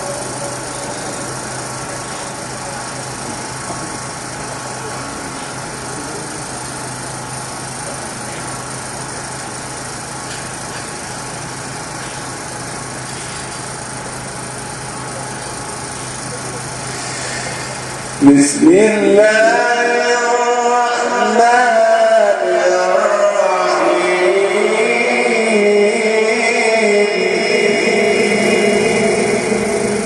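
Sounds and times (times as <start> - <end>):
sound system hiss: 0.0 - 30.0.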